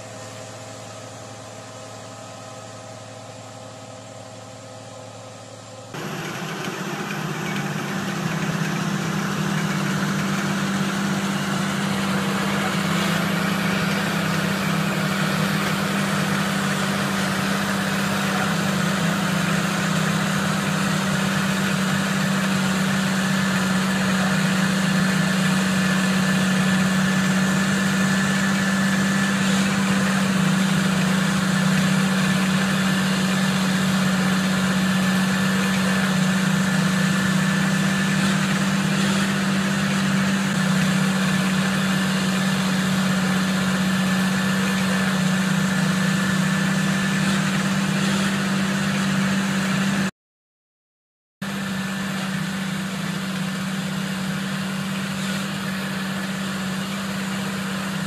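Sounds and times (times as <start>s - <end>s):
tractor diesel engine under load: 5.6s - 50.1s, 51.4s - 58.0s.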